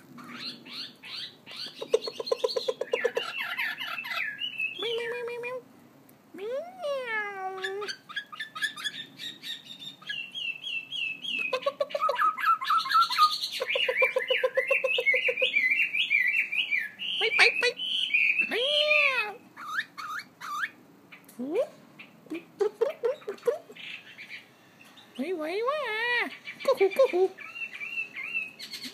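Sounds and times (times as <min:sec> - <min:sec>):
bird singing varied song: 0:00.1 - 0:05.6, 0:07.4 - 0:28.9.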